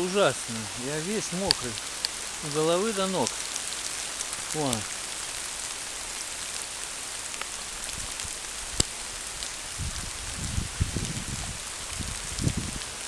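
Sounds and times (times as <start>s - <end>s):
heavy rain on foliage: 0.0s - 13.0s.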